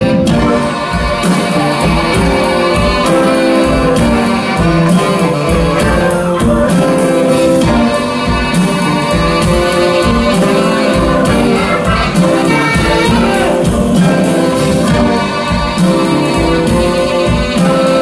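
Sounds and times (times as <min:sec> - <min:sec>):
blues guitar: 0:00.0 - 0:18.0
live blues band playing: 0:00.0 - 0:18.0.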